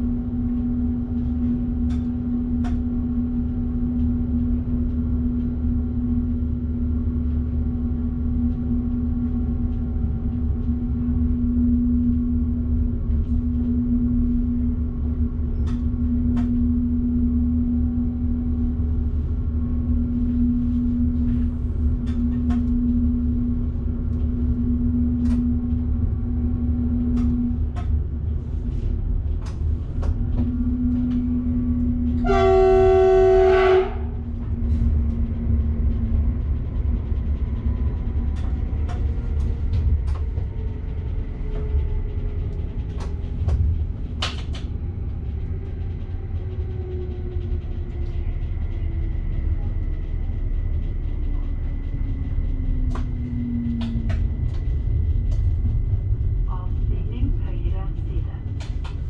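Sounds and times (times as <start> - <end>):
electric train rumble: 0.0 - 59.0
electrical hum: 0.0 - 59.0.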